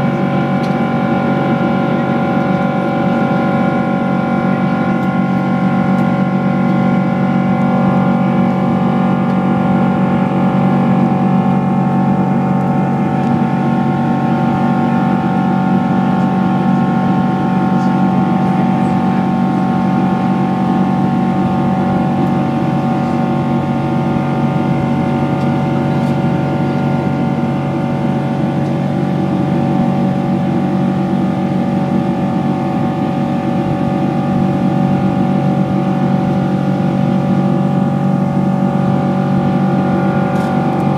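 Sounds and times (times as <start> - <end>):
jet engine drone: 0.0 - 40.9
steady hum tones: 0.0 - 40.9.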